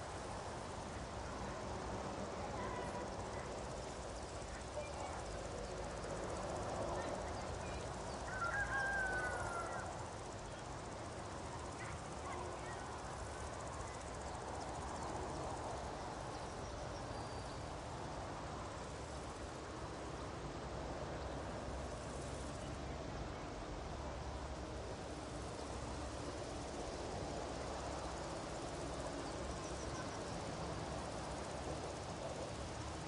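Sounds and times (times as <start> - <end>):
soft outdoor hiss: 0.0 - 33.0.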